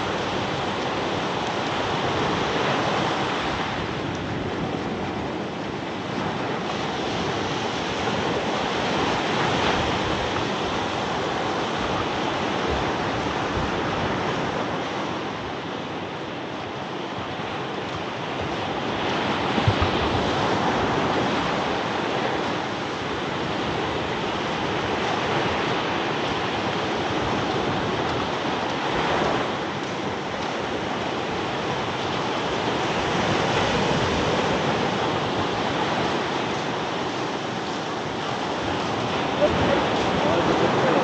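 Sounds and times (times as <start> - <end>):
ocean surf breaking: 0.0 - 41.0
wind on microphone: 0.0 - 41.0.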